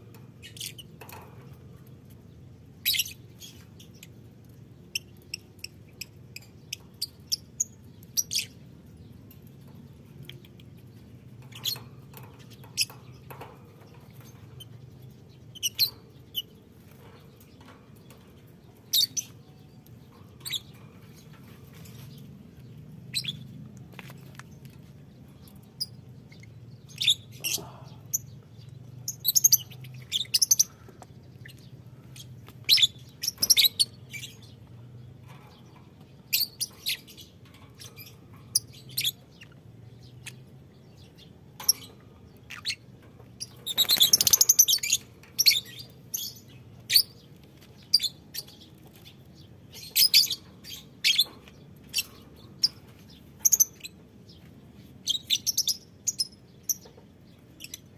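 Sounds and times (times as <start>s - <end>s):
lovebirds chirping: 0.0s - 57.9s.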